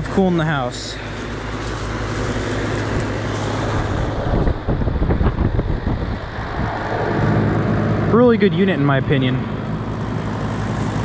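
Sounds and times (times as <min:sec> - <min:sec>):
compressor low hum: 0:00.0 - 0:11.0
fan blowing air: 0:00.0 - 0:11.0.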